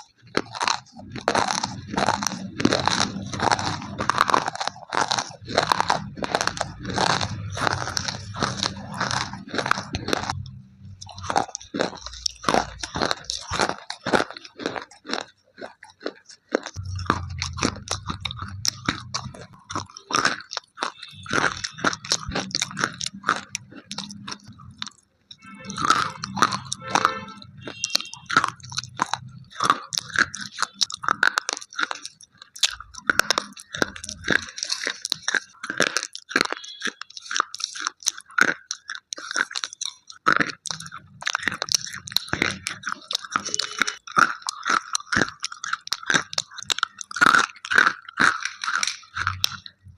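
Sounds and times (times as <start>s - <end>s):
pencils being chewed: 0.0s - 49.9s.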